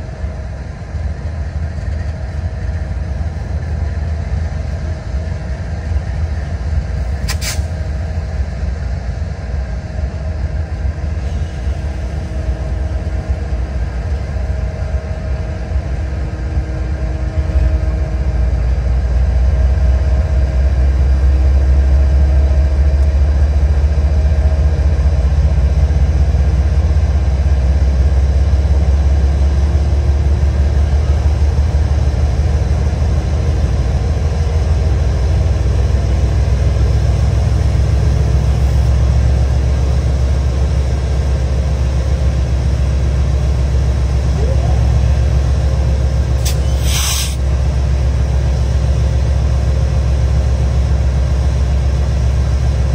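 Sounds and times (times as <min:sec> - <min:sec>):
diesel locomotive engine drone: 0:00.0 - 0:52.9.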